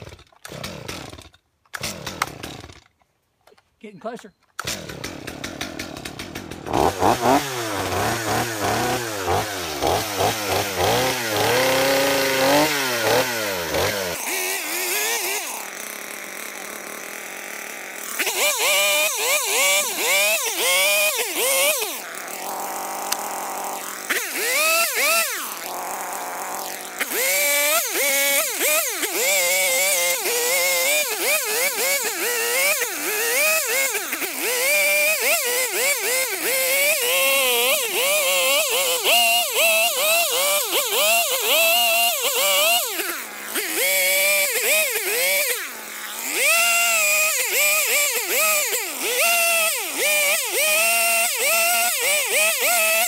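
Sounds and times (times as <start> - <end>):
chainsaw revving and cutting wood: 0.0 - 3.2, 4.0 - 53.0.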